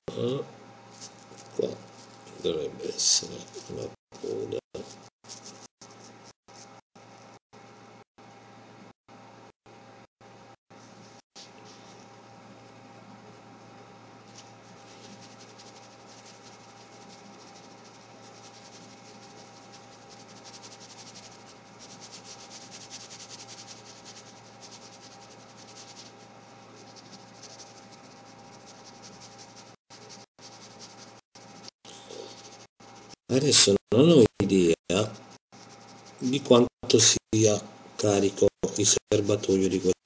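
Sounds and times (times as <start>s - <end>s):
brush pen scratching on paper: 0.8s - 7.7s, 10.7s - 33.8s, 34.5s - 37.3s.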